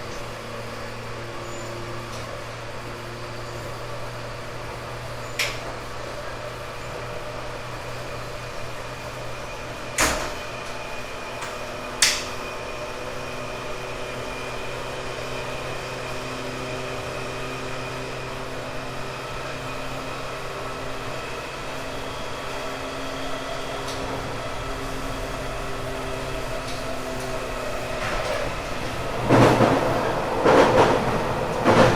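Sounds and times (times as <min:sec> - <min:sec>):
train motor hum: 0:00.0 - 0:31.9
train rolling noise: 0:00.0 - 0:31.9.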